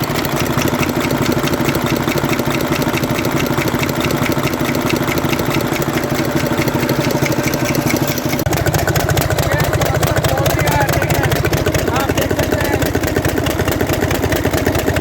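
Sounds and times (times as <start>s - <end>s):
diesel engine idling: 0.0s - 15.0s
engine ticking knock: 0.0s - 15.0s.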